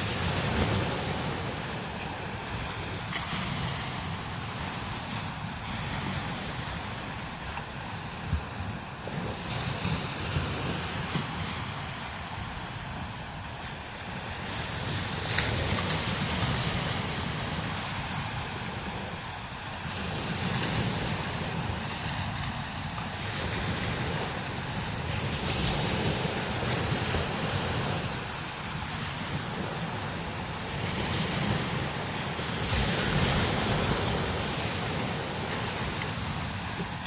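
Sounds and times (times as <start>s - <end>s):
strong wind gusting: 0.0s - 37.0s
wind buffeting microphone: 0.0s - 37.0s.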